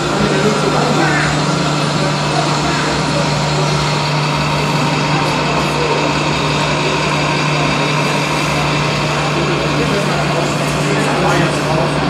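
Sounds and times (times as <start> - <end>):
small hydraulic pump: 0.0 - 12.0
toy truck engine-like hum: 0.0 - 12.0.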